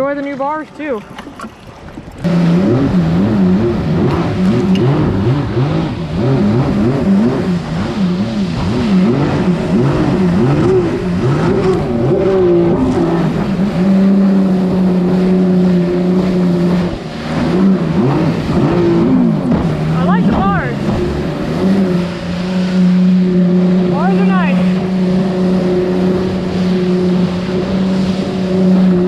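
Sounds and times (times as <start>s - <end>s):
jet ski engine revving: 1.1s - 29.0s.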